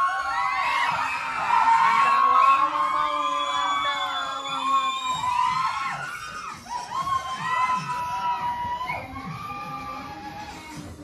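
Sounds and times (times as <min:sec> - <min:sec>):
crowd shouting and cheering: 0:00.0 - 0:11.0.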